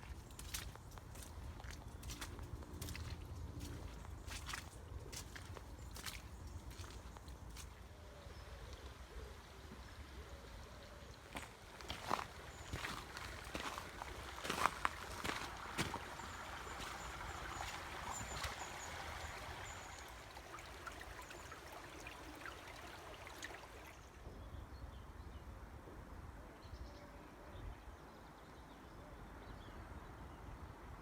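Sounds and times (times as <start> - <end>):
brook running water: 0.0 - 25.6.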